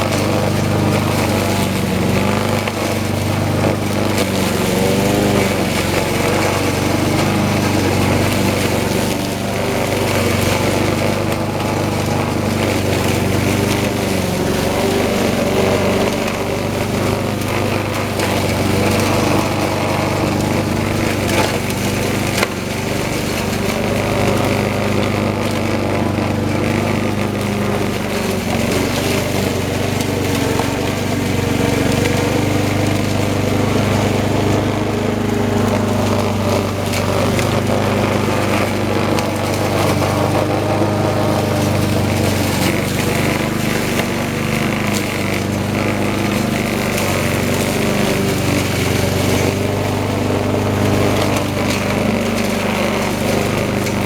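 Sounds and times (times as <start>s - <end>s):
lawn mower cutting grass: 0.0s - 54.0s.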